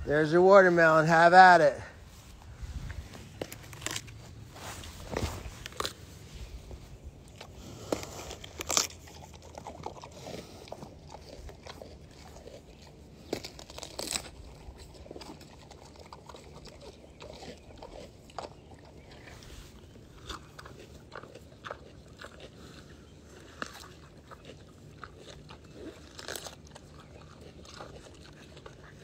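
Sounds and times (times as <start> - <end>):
pig chewing: 0.0 - 29.0
pig crunching watermelon: 0.0 - 29.0.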